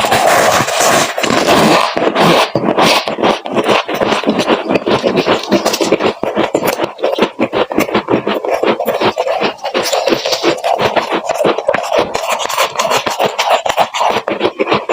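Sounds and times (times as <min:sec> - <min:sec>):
frost crunching: 0:00.0 - 0:14.9.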